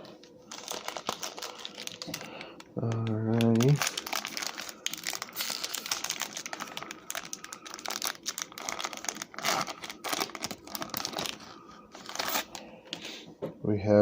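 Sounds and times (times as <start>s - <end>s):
foil wrapper crinkling: 0.0s - 12.7s.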